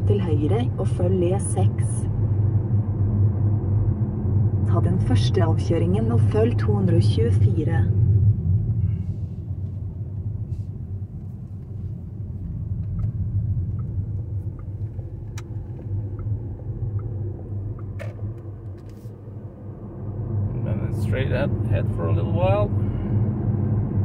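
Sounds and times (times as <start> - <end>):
road and tyre rumble in car: 0.0 - 24.0.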